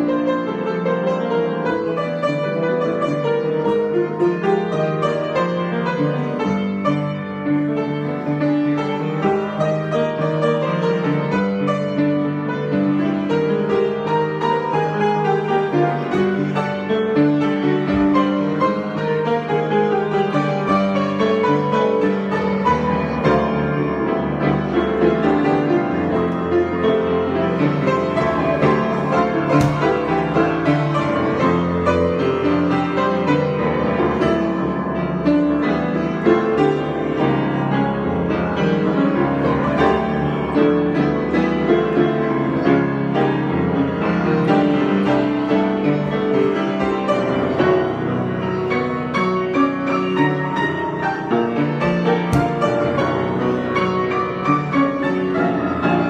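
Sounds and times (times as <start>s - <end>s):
grand piano improvisation: 0.0s - 56.0s.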